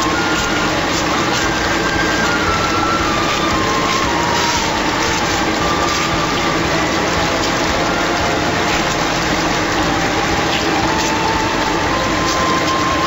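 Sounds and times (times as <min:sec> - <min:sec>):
water churning and splashing: 0:00.0 - 0:13.0.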